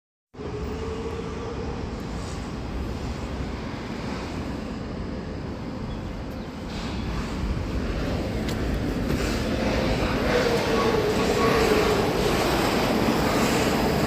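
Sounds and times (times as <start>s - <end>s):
heavy vehicle engine rumbling: 0.6s - 14.0s.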